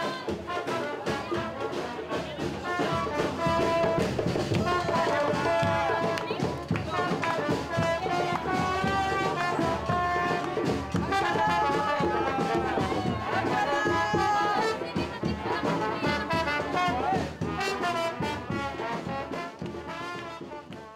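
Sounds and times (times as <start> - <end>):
brass band playing: 0.0 - 20.9.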